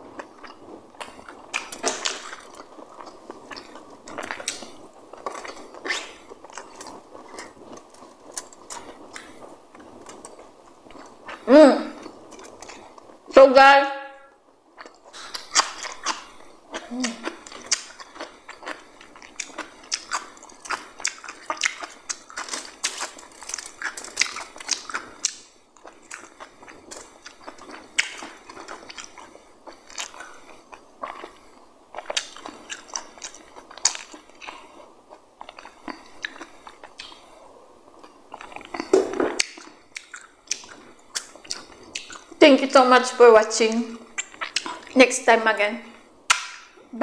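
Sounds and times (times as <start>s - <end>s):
crunching and chewing cucumber: 0.0s - 13.1s, 14.8s - 37.4s, 38.0s - 42.4s, 44.0s - 45.0s.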